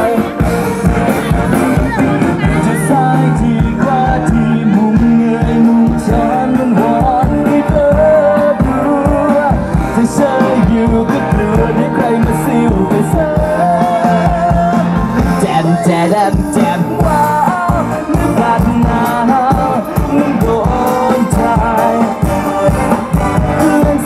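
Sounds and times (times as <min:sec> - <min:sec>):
drum beat: 0:00.0 - 0:24.0
live band playing pop-rock: 0:00.0 - 0:24.0
person singing: 0:00.0 - 0:24.0.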